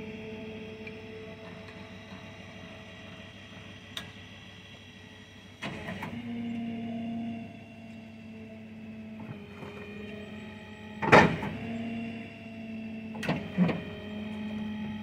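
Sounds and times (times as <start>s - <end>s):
engine and hydraulics humming: 0.0s - 15.0s.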